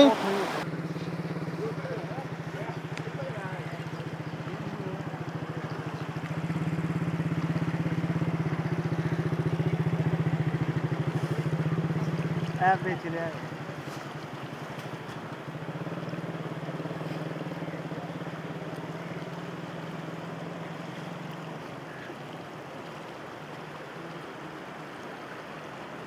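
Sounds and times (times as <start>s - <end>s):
fast-flowing floodwater: 0.0s - 26.0s
small engine running: 0.6s - 21.7s.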